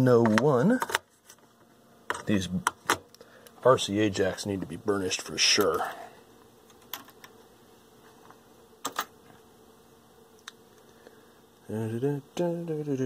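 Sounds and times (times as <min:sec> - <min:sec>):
buzzing ac hum: 0:00.0 - 0:13.0.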